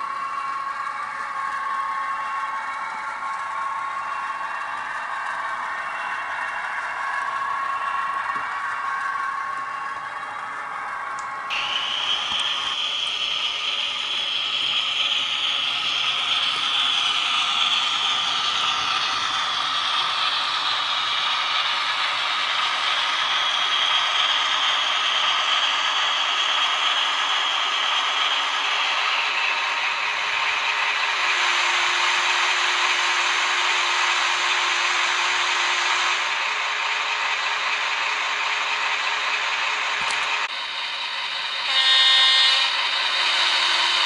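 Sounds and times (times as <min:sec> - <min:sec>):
model train motor whirring: 0:00.0 - 0:44.0.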